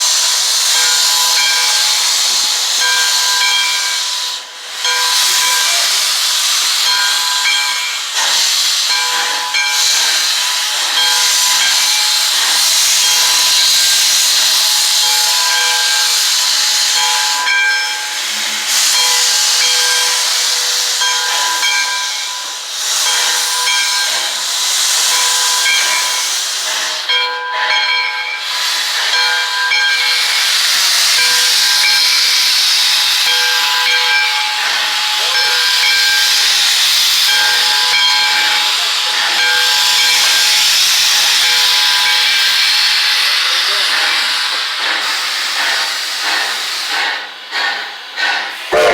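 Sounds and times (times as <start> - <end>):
steam locomotive hissing: 0.0 - 48.9.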